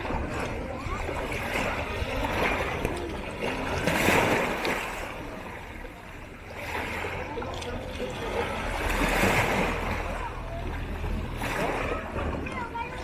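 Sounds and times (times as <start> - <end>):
small waves lapping at shore: 0.0 - 13.0.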